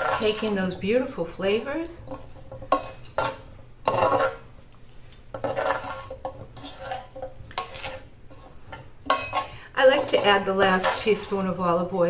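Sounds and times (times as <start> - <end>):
utensil scraping a pan: 0.0 - 4.5, 5.3 - 12.0.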